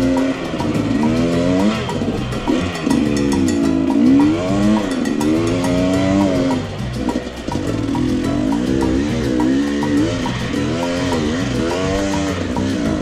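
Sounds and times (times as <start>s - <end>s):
background music beat: 0.0s - 13.0s
motorcycle engine revving: 0.0s - 13.0s.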